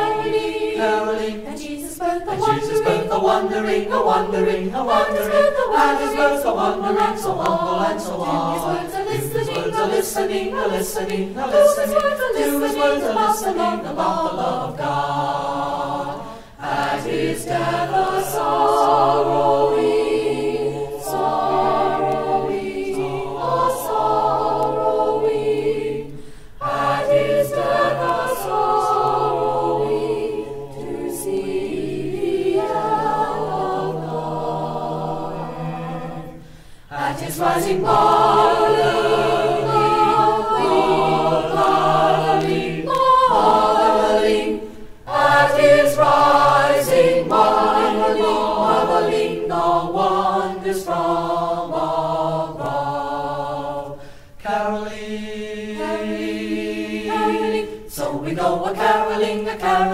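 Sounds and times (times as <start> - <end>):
mixed choir singing a carol: 0.0 - 59.9.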